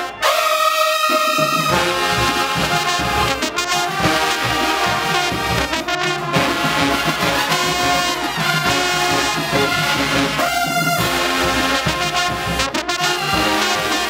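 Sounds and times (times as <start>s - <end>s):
brass marching band playing: 0.0s - 14.0s
drum beat: 1.0s - 14.0s.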